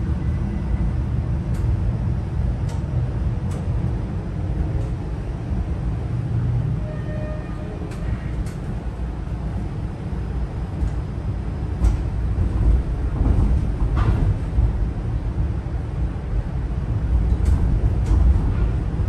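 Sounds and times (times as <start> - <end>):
streetcar cabin rumble: 0.0 - 19.0.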